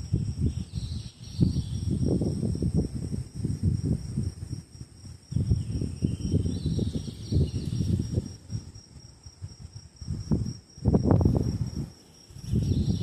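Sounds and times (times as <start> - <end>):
crickets trilling: 0.0 - 13.0
gusty low rumble: 1.4 - 13.0.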